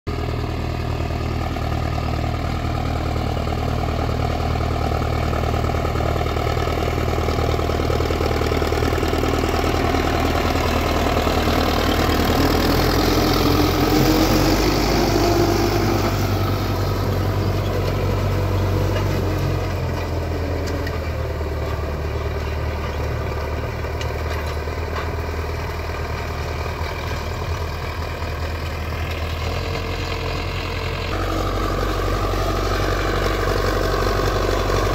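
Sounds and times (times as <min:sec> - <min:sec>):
tractor diesel engine running: 0:00.1 - 0:34.9
harrow discs scraping soil: 0:04.7 - 0:34.9.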